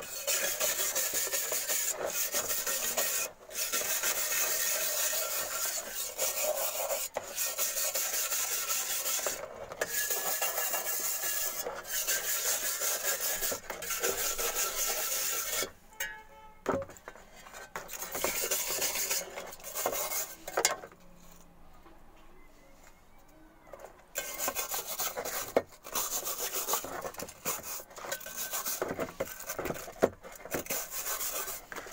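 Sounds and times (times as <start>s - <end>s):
wire brush scraping metal: 0.0s - 15.8s, 17.1s - 21.4s, 24.2s - 31.9s.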